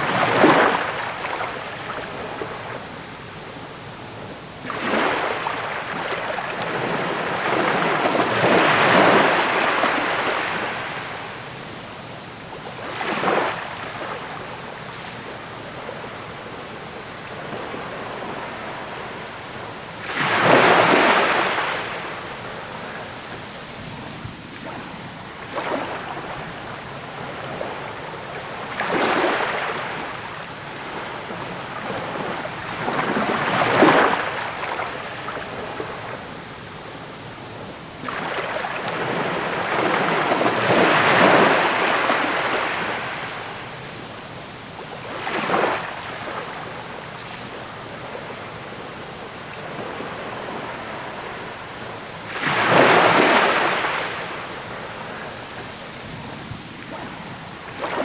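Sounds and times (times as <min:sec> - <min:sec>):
sea waves breaking: 0:00.0 - 0:11.7, 0:12.4 - 0:58.0.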